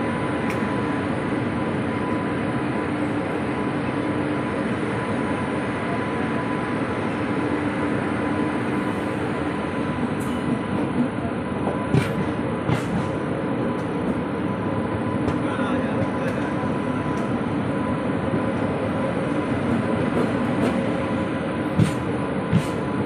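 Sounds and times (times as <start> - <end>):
train running on track: 0.0 - 23.0.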